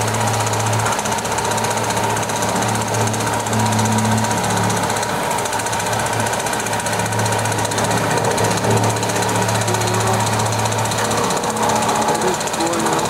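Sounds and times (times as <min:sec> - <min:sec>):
engine humming: 0:00.0 - 0:13.0
road-repair machine pounding: 0:00.0 - 0:13.0.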